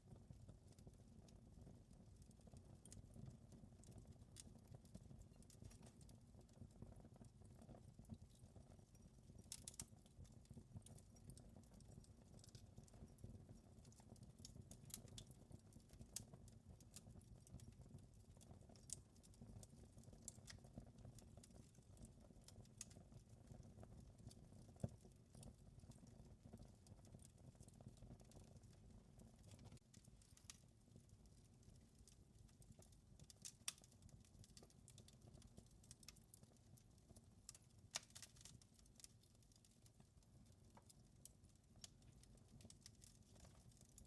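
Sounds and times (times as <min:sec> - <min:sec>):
low rumble of burning fire: 0:00.0 - 0:44.0
wood fire crackling: 0:00.1 - 0:44.0.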